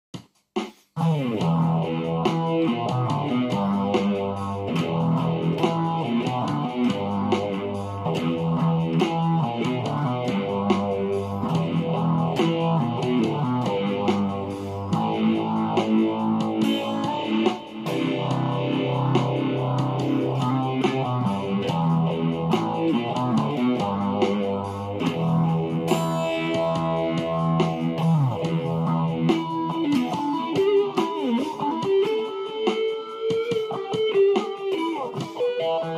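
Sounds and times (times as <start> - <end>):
electric guitar instrumental: 1.0 - 35.9.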